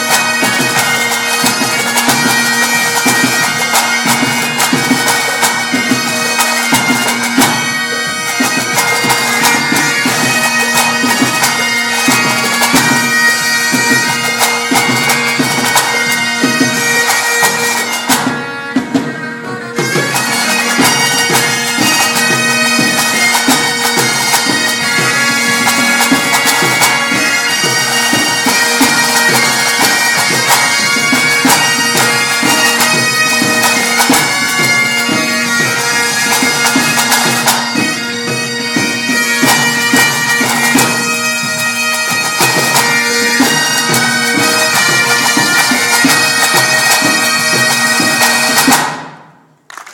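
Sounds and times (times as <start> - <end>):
bagpipes playing melody over drone: 0.0 - 48.7
snare drums beating: 0.0 - 49.9.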